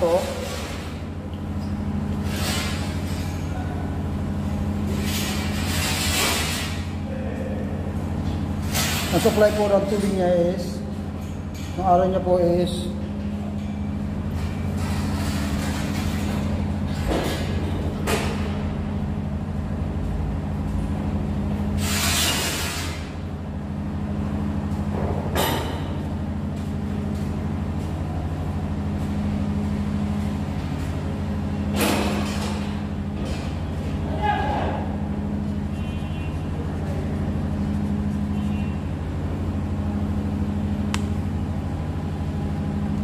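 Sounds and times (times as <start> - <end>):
machinery humming: 0.0 - 43.0.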